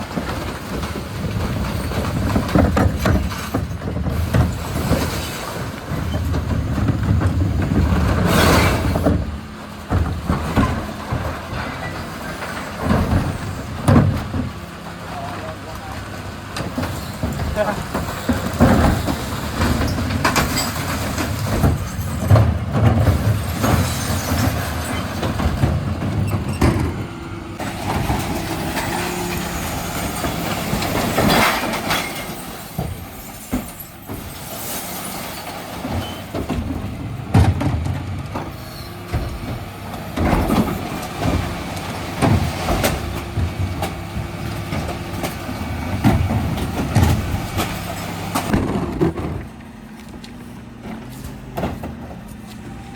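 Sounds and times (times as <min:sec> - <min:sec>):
metal bins clanking: 0:00.0 - 0:52.9
truck engine and hydraulic hum: 0:00.0 - 0:52.9.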